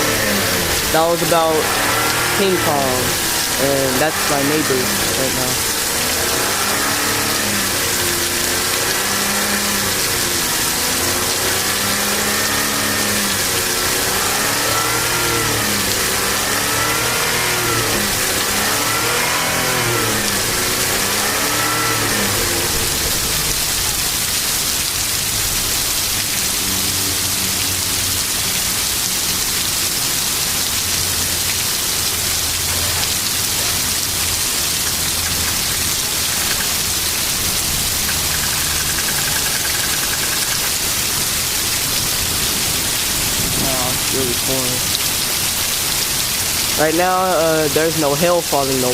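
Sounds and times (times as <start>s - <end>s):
car engine revving and idling: 0.0s - 48.8s
heavy rain hissing: 0.0s - 48.9s.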